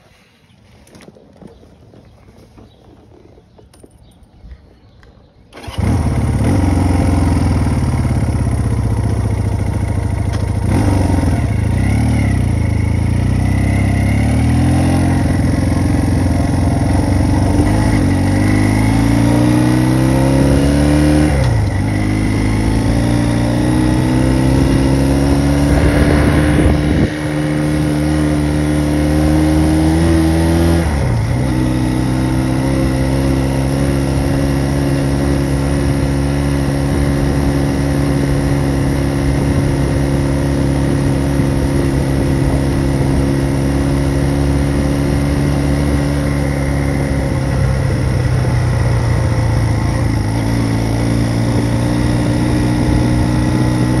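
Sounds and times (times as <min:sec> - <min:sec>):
motorcycle engine running: 0:05.6 - 0:54.0.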